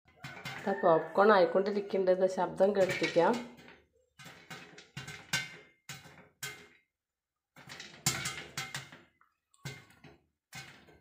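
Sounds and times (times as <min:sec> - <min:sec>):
popcorn popping against pot lid: 0:00.1 - 0:06.9, 0:07.6 - 0:11.0.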